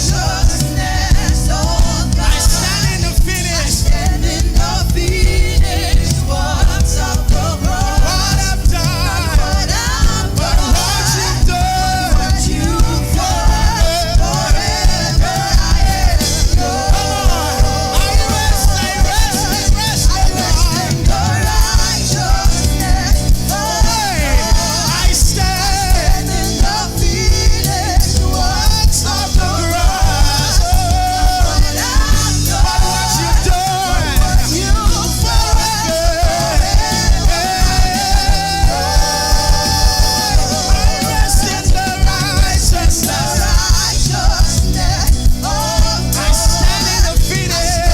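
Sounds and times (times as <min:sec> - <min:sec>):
band playing gospel music: 0:00.0 - 0:47.9
voices singing: 0:00.0 - 0:47.9.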